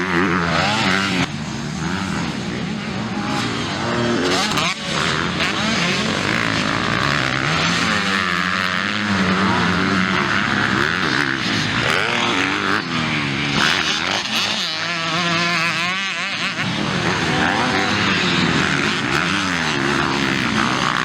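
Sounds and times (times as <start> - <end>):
motocross bikes revving: 0.0 - 21.0.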